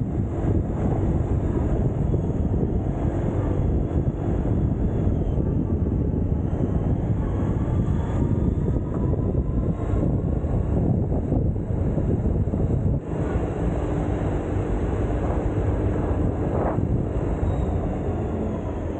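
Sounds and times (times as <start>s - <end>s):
faint rising whine: 0.0s - 18.9s
wind buffeting microphone: 0.0s - 18.9s.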